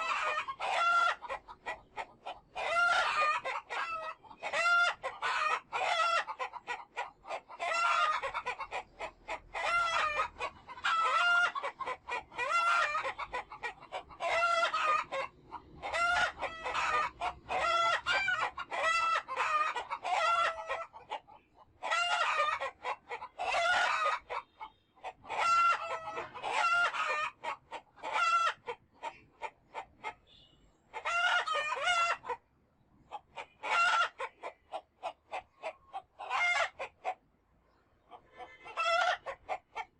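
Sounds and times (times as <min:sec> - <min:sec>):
chickens clucking and cackling: 0:00.0 - 0:39.9.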